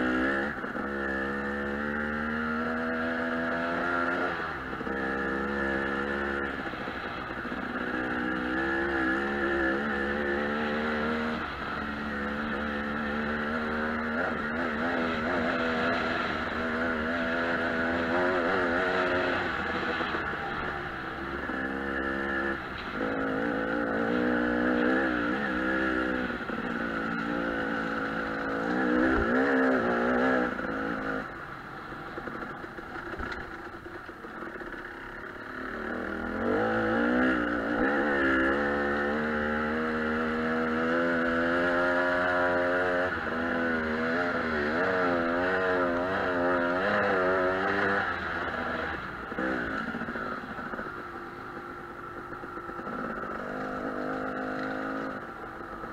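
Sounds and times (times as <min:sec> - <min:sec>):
dirt bike engine revving: 0:00.0 - 0:31.4, 0:35.4 - 0:51.2, 0:52.1 - 0:55.9.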